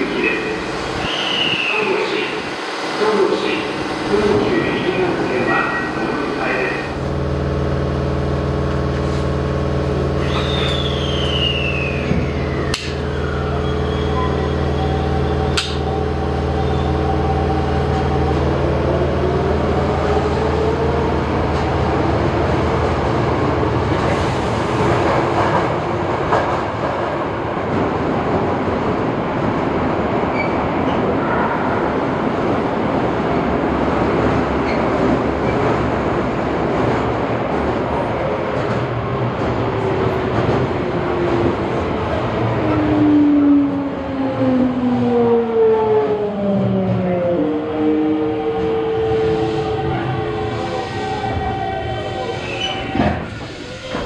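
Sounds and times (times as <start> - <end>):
subway train electric drive hum: 0.0 - 54.0
train rumbling along track: 0.0 - 54.0.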